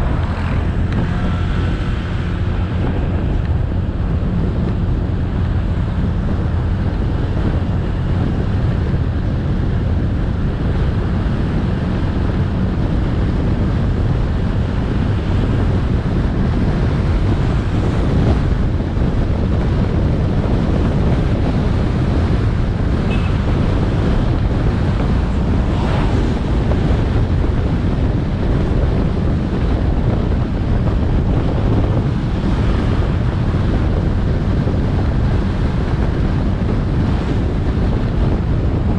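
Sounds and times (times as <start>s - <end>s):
motorbike engine hum: 0.0s - 38.9s
road noise: 0.0s - 38.9s
wind buffeting microphone: 0.0s - 38.9s.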